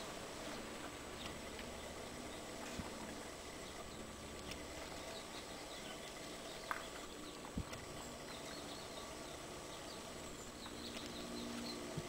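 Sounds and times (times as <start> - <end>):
background hiss: 0.0 - 12.0
small birds chirping: 0.0 - 12.0.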